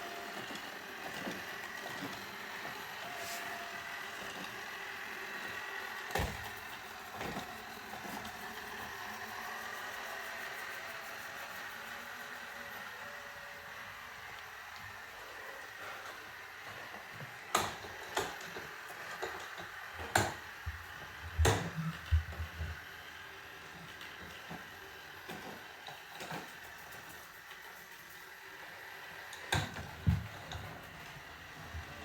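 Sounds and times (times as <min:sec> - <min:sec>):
robot vacuum humming: 0:00.0 - 0:32.0.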